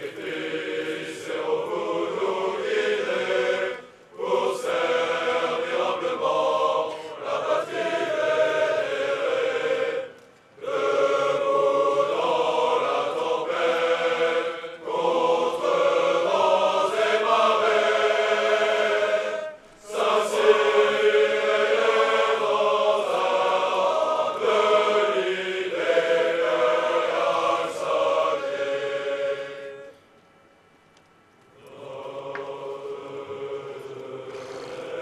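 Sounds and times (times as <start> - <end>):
choir singing: 0.0 - 30.0, 31.6 - 35.0.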